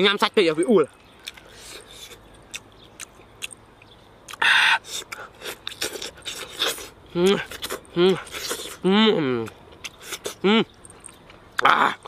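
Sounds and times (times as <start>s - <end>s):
crunchy chewing: 0.9s - 12.0s.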